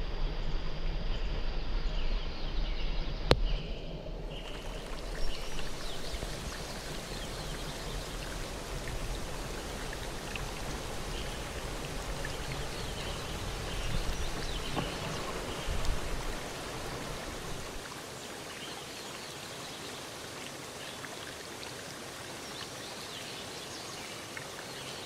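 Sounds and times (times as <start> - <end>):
river water rushing: 4.3 - 25.0.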